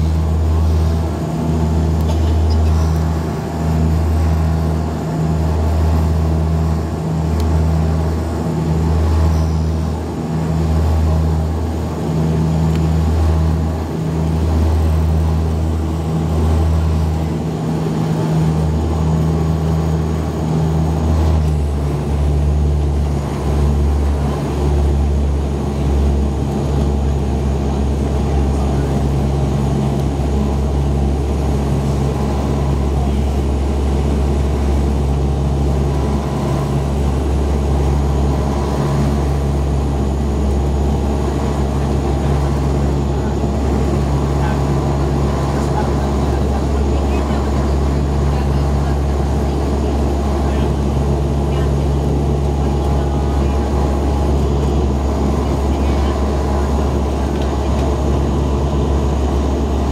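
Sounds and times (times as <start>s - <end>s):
turboprop cabin drone: 0.0s - 59.9s.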